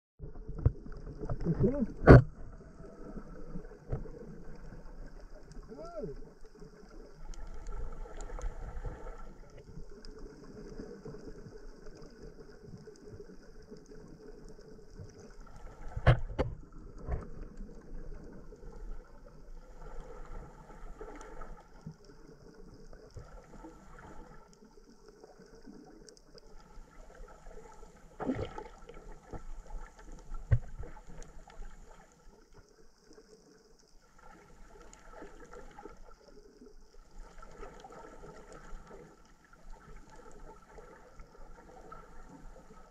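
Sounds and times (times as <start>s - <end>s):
underwater wash of moving water: 0.2s - 42.9s.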